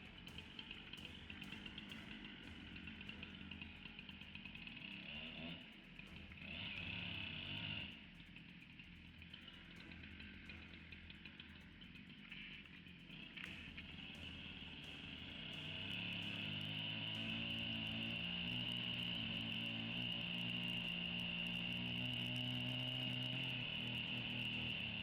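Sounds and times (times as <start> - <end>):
faint chainsaw running: 0.0 - 25.0.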